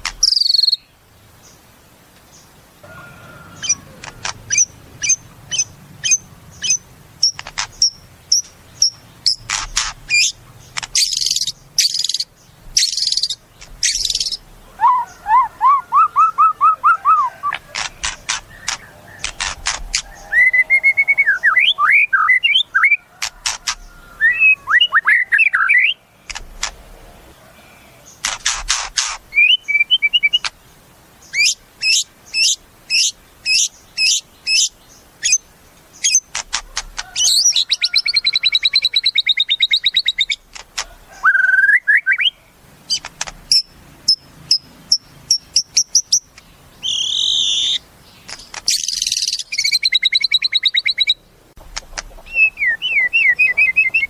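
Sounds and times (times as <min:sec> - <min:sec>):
songbird singing varied song: 0:00.0 - 0:54.0.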